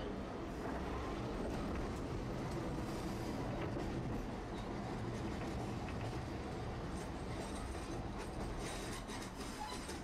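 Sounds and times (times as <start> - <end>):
streetcar wheels and motor rumbling: 0.0 - 10.0.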